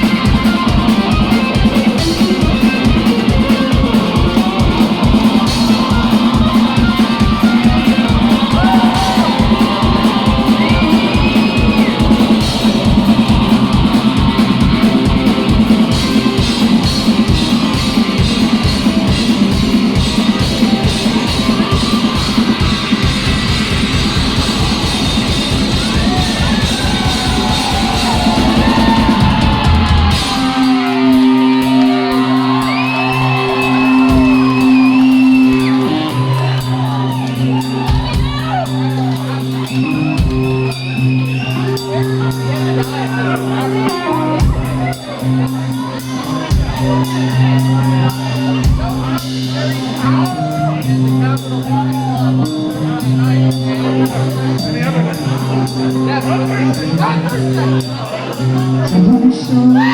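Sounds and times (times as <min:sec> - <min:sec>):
crowd shouting and yelling: 0:00.0 - 0:59.9
live rock band playing: 0:00.0 - 0:59.9.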